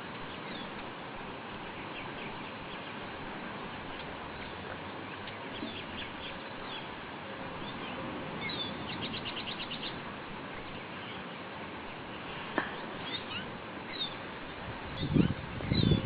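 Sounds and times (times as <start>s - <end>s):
small birds chirping: 0.0s - 16.0s
steady background hiss: 0.0s - 16.0s.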